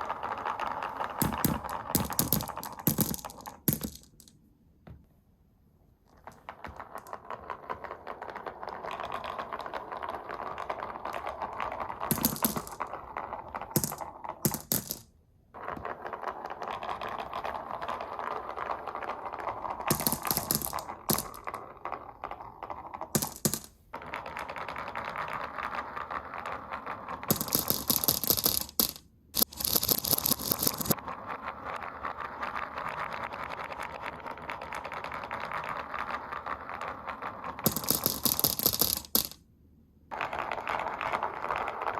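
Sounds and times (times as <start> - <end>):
marbles clattering: 0.0 - 4.4, 6.1 - 39.4, 40.1 - 41.9
marbles rolling on wood: 0.0 - 4.4, 6.1 - 39.4, 40.1 - 41.9.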